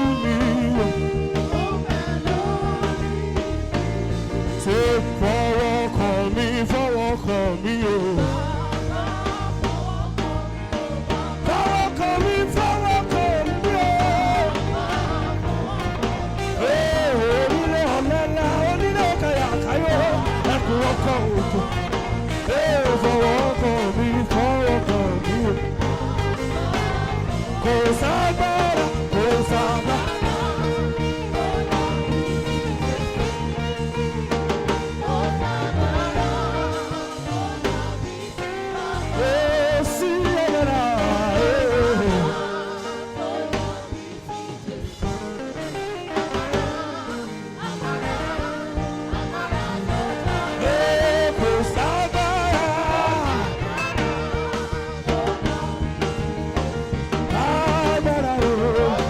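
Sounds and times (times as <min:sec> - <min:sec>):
live backing band: 0:00.0 - 0:59.0.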